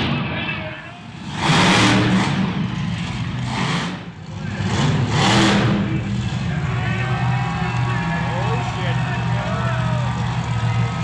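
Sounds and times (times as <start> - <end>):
monster truck engine revving: 1.0 - 11.0.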